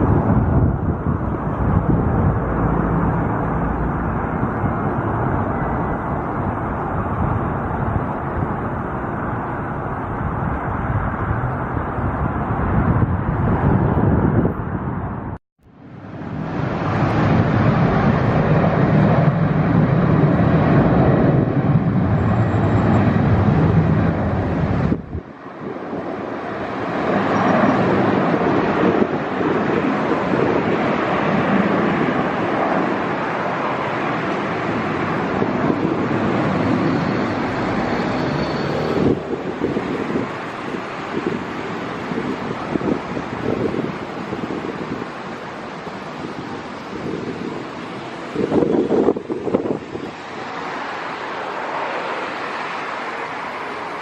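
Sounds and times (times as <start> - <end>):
distant jet engines rumbling: 0.0 - 54.0
wind buffeting microphone: 0.0 - 54.0.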